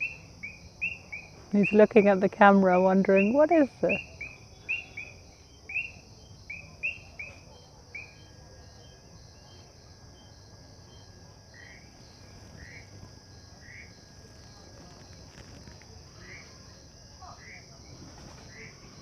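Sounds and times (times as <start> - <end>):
frogs chorus: 0.0 - 19.0.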